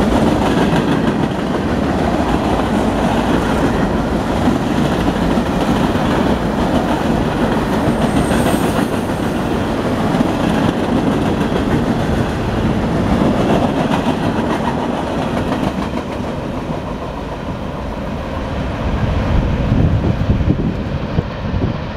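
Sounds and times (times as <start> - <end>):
freight train wheels rumbling on rails: 0.0 - 21.9.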